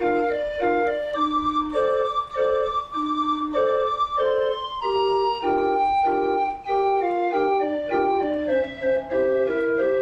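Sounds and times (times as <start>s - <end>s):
barrel organ playing a tune: 0.0s - 10.0s.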